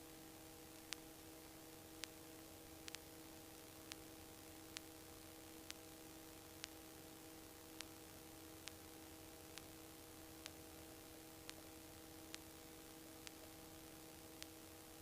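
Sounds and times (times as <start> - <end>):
faint hiss and hum: 0.0 - 15.0
faint ticks: 0.7 - 15.0.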